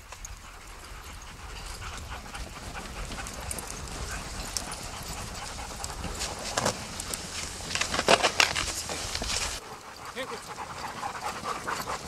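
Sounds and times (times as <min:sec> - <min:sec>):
dogs panting: 0:00.0 - 0:12.0
sled dogs running on snow: 0:00.0 - 0:12.0.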